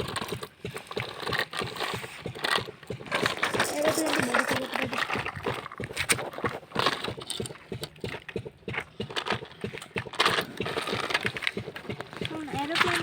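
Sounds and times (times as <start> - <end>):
rapid clicking and knocking: 0.0 - 13.0.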